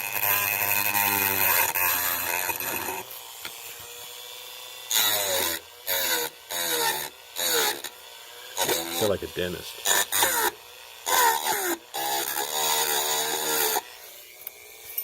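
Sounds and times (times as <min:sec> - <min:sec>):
rotary tool grinding: 0:00.0 - 0:15.0.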